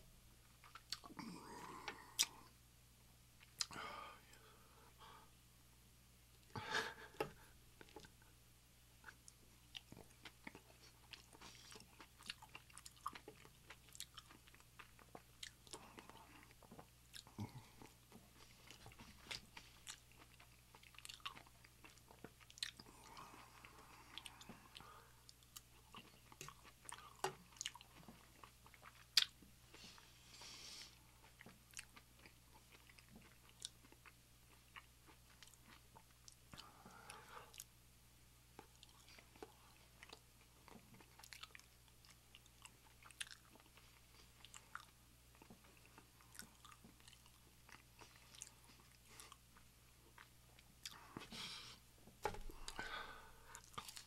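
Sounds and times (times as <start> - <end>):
man chewing: 0.6 - 2.5, 9.0 - 37.7, 38.5 - 54.0.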